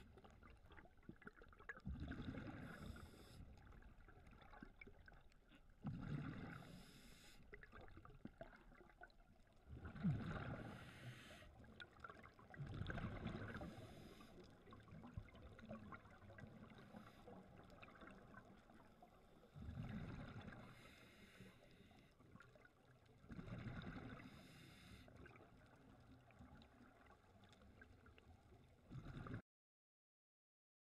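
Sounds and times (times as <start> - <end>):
underwater exhaust bubbles: 0.0 - 29.4.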